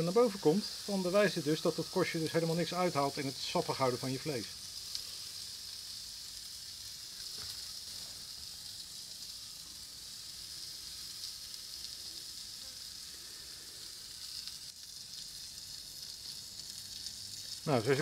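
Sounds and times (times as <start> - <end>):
steak sizzling on griddle: 0.0 - 18.0.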